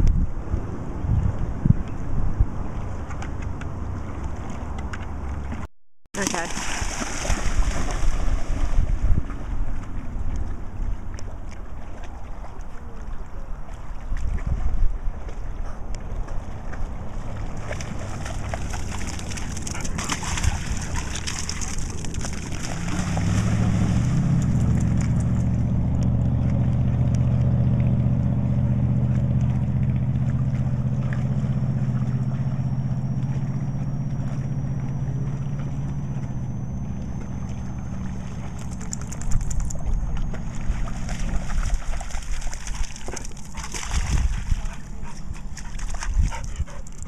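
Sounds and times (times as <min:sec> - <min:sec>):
motorboat engine running: 0:00.0 - 0:47.0
dog splashing through water: 0:04.0 - 0:36.2, 0:36.8 - 0:47.0.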